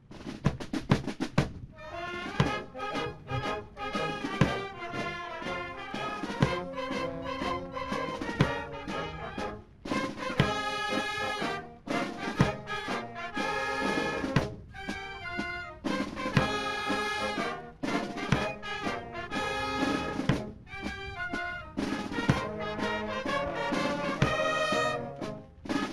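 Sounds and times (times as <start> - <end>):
drum strokes: 0.0 - 25.9
brass music: 1.7 - 25.9.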